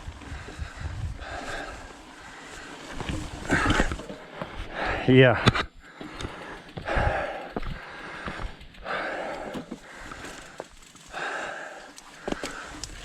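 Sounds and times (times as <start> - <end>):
bike clicking and rattling: 0.0 - 13.0
person breathing hard: 0.2 - 13.0.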